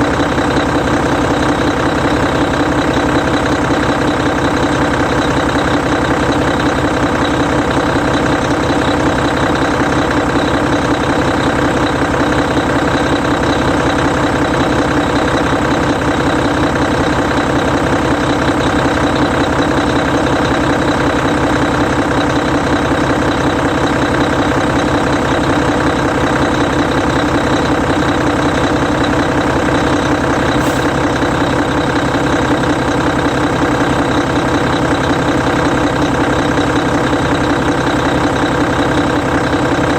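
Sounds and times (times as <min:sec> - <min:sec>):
diesel bus engine idling: 0:00.0 - 0:39.9.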